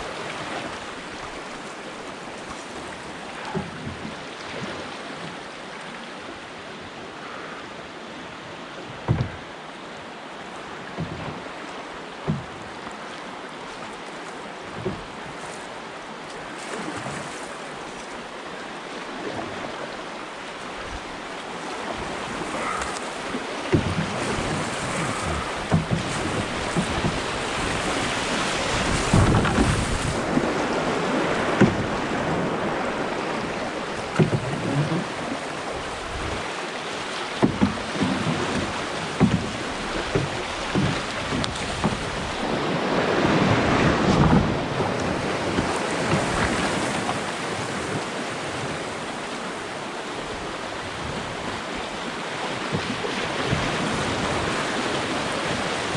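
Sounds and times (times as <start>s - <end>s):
rushing whitewater: 0.0s - 55.9s
water splashes: 0.0s - 55.9s.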